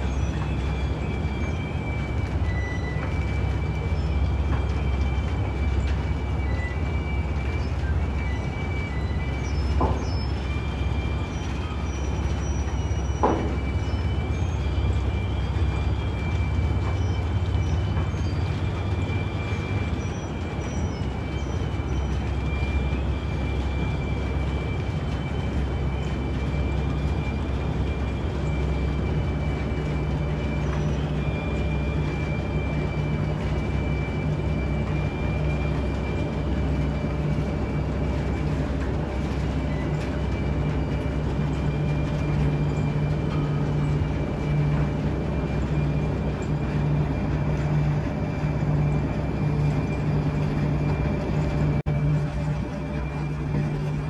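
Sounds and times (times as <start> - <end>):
heavy machinery rumbling: 0.0 - 54.0.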